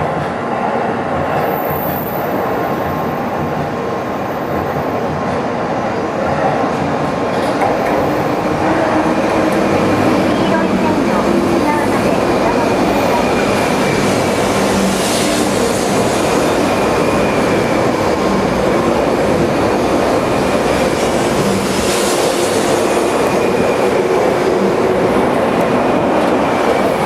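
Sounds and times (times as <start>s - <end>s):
train rolling rumble: 0.0s - 27.0s.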